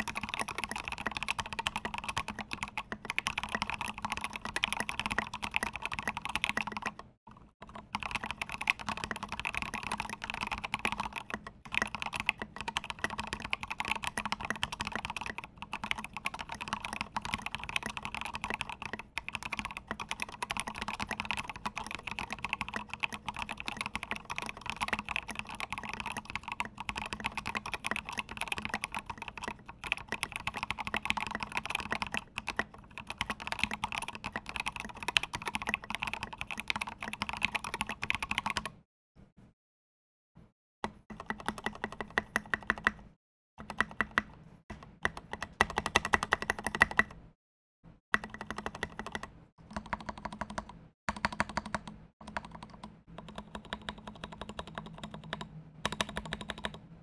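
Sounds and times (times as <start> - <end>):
mechanical keyboard typing: 0.0 - 38.8, 40.9 - 47.2, 48.2 - 56.9.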